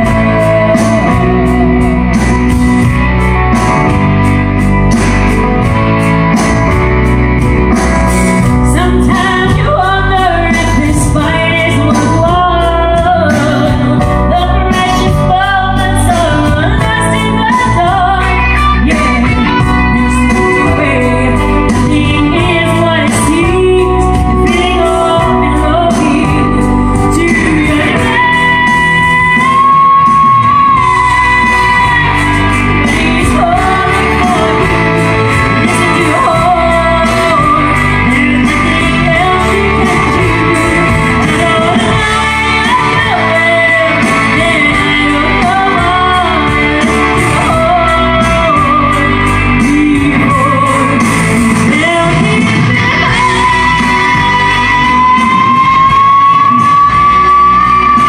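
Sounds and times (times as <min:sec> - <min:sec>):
woman singing live: 0:00.0 - 0:05.8, 0:07.4 - 0:58.0
amplified band with guitar: 0:00.0 - 0:58.0.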